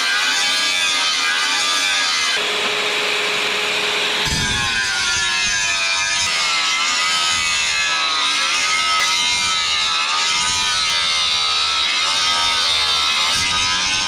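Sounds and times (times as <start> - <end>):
power tool motor running: 0.0 - 14.0.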